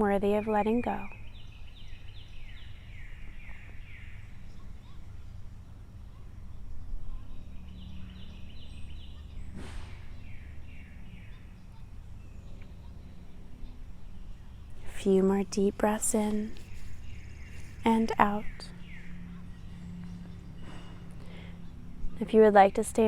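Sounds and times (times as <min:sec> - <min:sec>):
songbird singing: 0:00.0 - 0:23.0
steady low hum: 0:00.0 - 0:23.0.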